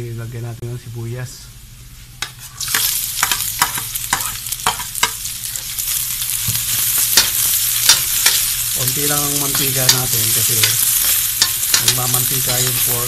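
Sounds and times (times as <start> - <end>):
spatula scraping wok: 2.2 - 13.0
onions sizzling in oil: 2.4 - 13.0.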